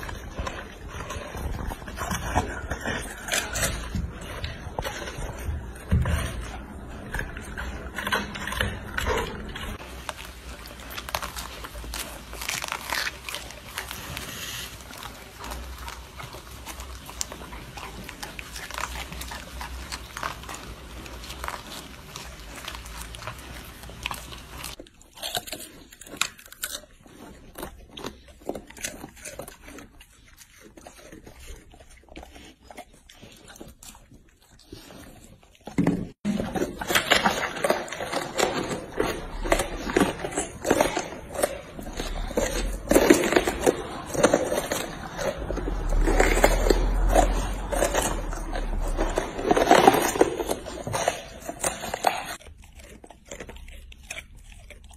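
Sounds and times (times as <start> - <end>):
dogs crunching vegetables: 0.0 - 54.9.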